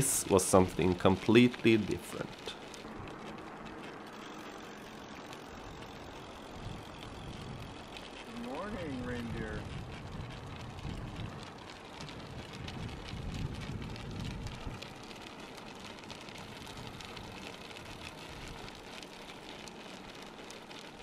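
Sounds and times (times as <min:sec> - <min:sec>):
low rumble: 0:00.0 - 0:18.8
hooves clicking on asphalt: 0:00.0 - 0:21.0.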